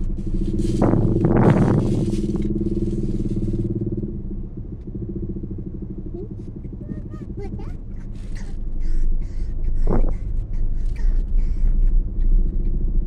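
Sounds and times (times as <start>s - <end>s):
loud passing engine: 0.0s - 10.5s
traffic engines humming: 0.0s - 13.0s.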